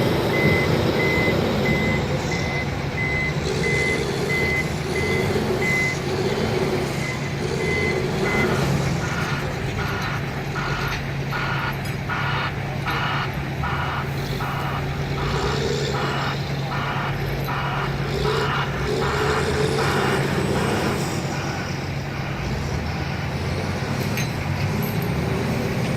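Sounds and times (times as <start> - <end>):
vehicle backup alarm beeping: 0.0 - 22.4
diesel engine running: 0.0 - 25.9.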